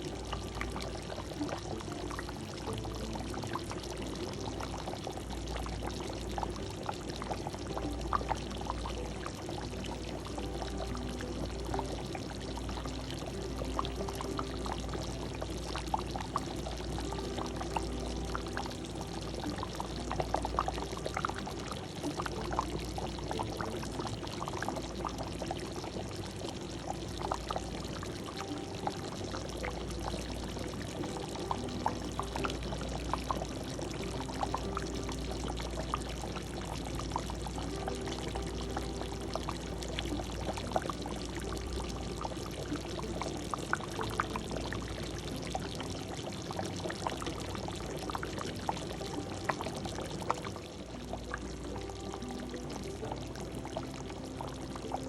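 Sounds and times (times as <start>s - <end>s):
thick sauce bubbling and popping: 0.0s - 55.0s.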